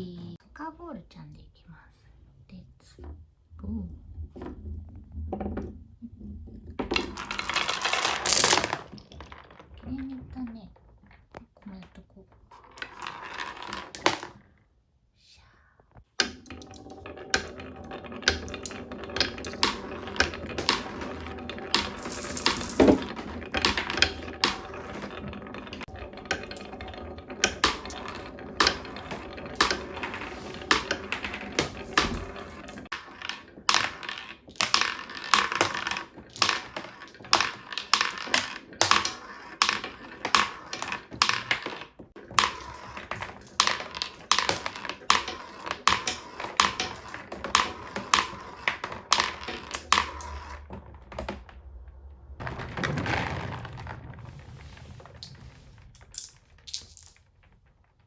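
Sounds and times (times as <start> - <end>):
marbles clacking on wooden track: 4.2 - 14.6, 16.0 - 58.0.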